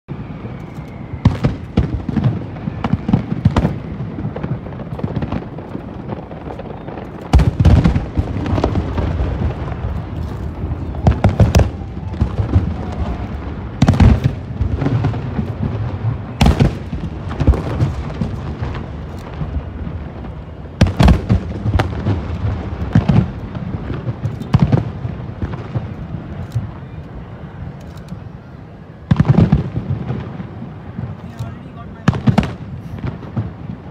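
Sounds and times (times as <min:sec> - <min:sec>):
fireworks booms and crackling: 0:00.1 - 0:33.9.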